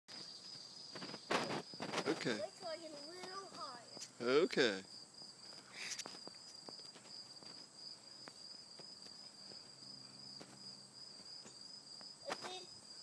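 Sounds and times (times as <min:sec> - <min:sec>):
high-pitched insect trill: 0:00.1 - 0:13.0.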